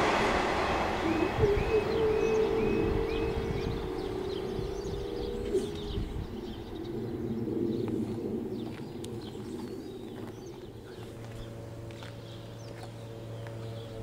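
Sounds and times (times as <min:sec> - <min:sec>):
low rumble: 0:00.0 - 0:14.0
small birds chirping: 0:01.0 - 0:14.0.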